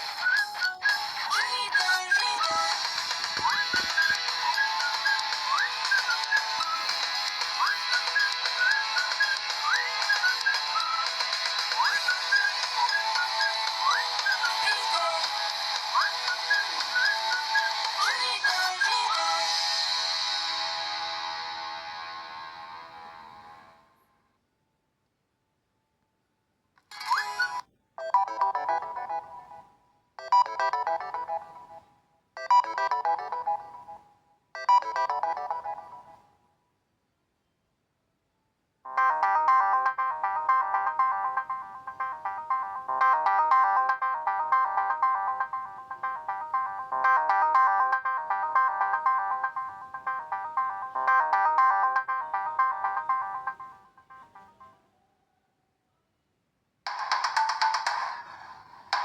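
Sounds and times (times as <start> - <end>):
phone ringtone: 0.0 - 23.6, 26.9 - 34.0, 34.6 - 36.2, 38.9 - 54.9.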